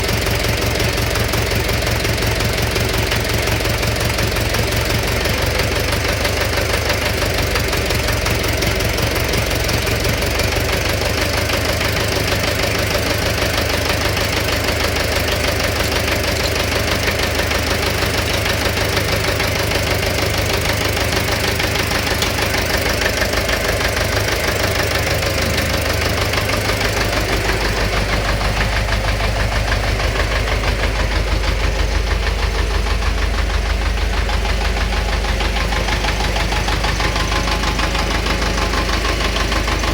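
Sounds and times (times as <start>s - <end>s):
engine knocking: 0.0s - 39.9s
engine running: 0.0s - 39.9s.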